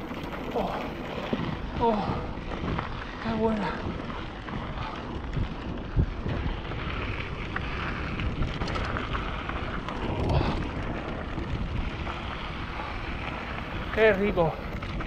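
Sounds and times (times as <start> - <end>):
bike tyres rolling on dirt: 0.0 - 15.0
wind on microphone: 0.0 - 15.0.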